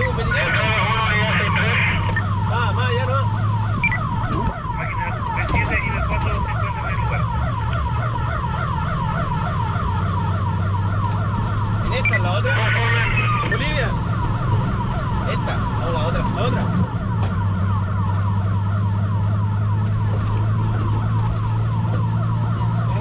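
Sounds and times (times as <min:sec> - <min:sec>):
siren yelping: 0:00.0 - 0:23.0
truck engine drone: 0:00.0 - 0:23.0.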